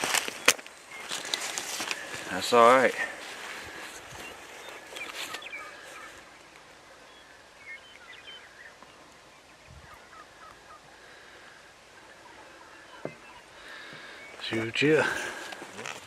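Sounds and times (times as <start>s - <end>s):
rustle: 0.0s - 16.0s.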